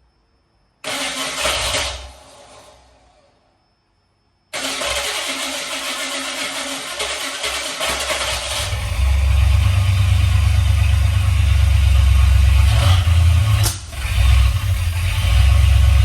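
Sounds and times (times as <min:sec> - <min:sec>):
car engine starting and rumbling: 0:00.8 - 0:03.2, 0:04.6 - 0:16.0.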